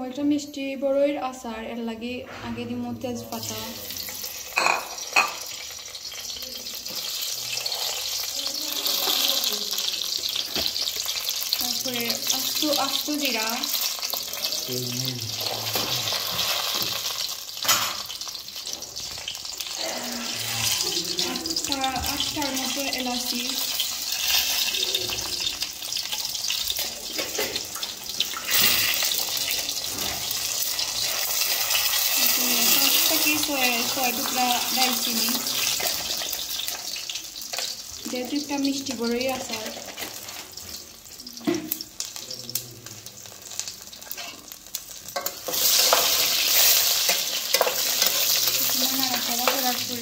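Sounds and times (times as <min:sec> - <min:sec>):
leaves sizzling in hot oil: 0:03.1 - 0:50.0.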